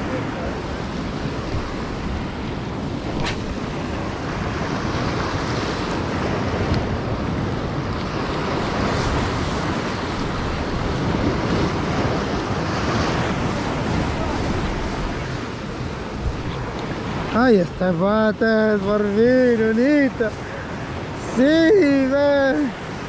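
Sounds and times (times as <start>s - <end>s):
sea waves washing in: 0.0s - 23.0s
wind buffeting microphone: 0.0s - 23.0s.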